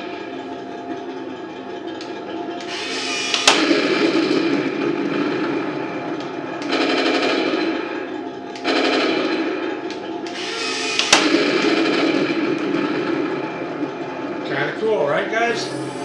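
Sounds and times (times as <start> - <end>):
electronic machine-gun bursts: 2.6 - 16.0.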